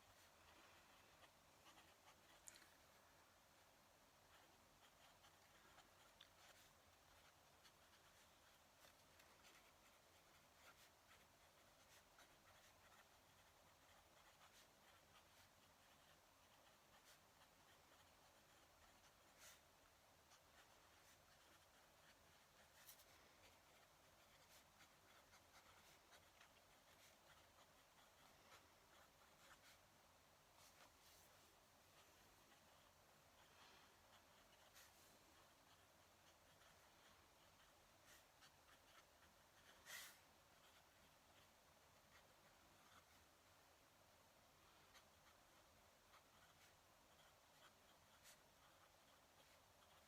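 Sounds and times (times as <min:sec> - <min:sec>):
pen nib scratching on paper: 0:00.0 - 0:03.0, 0:03.6 - 0:50.0.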